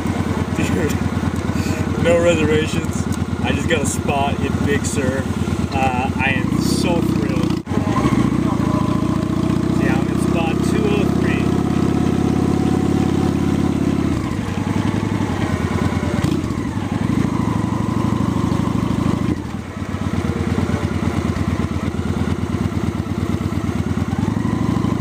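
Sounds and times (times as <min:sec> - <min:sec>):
motorcycle engine running slowly: 0:00.0 - 0:25.0.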